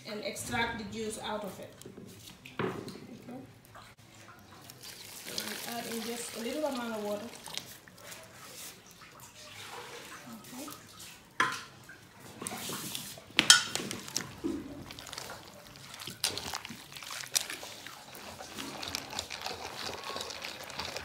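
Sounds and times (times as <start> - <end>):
liquid sloshing and squelching: 0.4 - 21.0.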